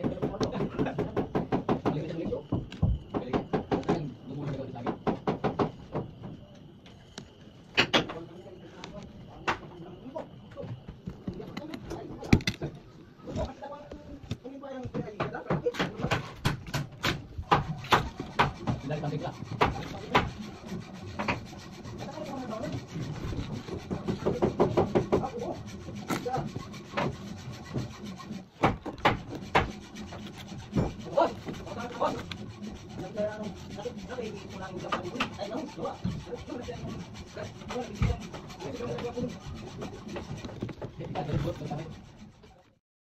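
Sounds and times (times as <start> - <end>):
plastic pipe rubbing and scraping: 0.0 - 42.8.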